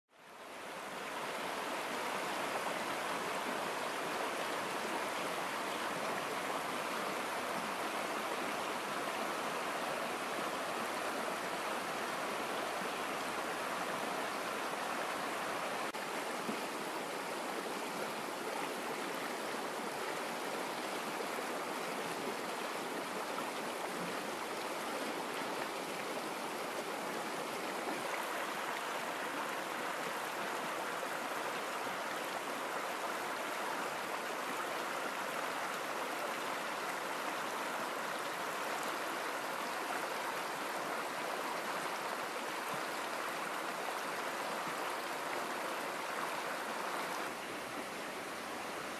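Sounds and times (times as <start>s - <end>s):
stream rushing over rocks: 0.2s - 48.9s.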